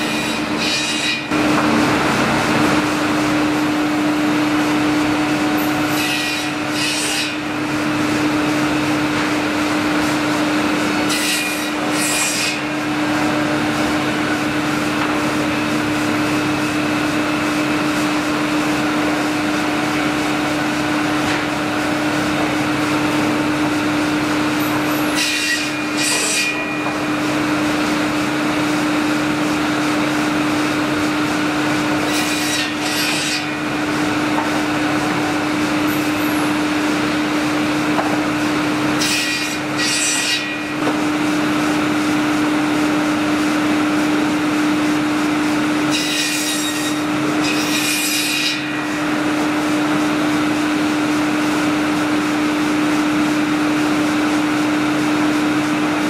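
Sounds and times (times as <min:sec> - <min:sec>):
saw machine humming: 0:00.0 - 0:56.0.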